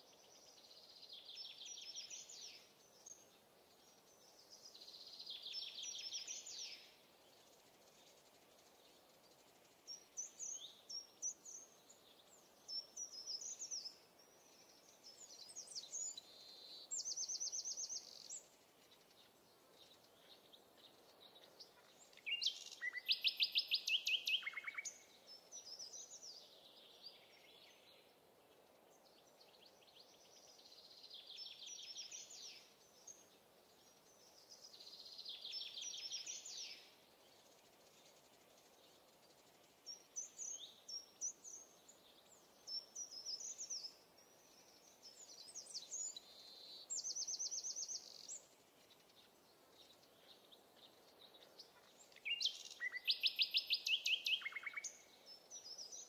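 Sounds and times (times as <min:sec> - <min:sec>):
faint background noise: 0:00.0 - 0:56.0
songbirds singing trills: 0:00.0 - 0:56.0.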